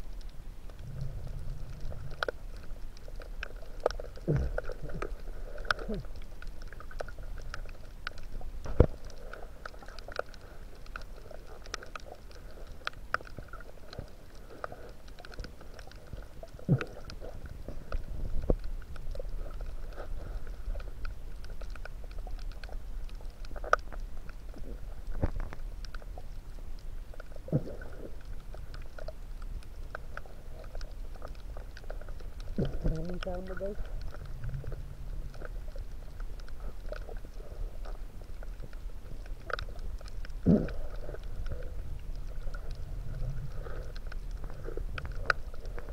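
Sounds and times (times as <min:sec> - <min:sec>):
underwater clicks and crackles: 0:00.0 - 0:45.9
underwater low rumble: 0:00.0 - 0:45.9.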